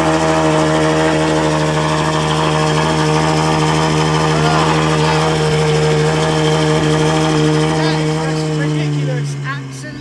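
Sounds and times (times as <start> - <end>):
car engine idling loudly: 0.0 - 10.0.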